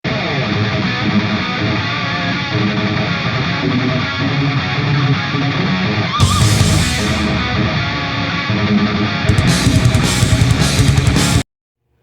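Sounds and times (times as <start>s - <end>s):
guitar rock music: 0.1s - 11.4s.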